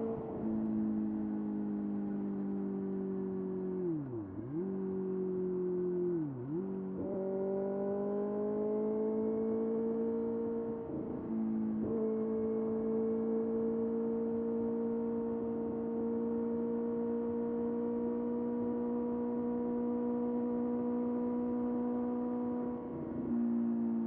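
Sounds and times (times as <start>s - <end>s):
motorcycle engine whine: 0.0s - 24.0s.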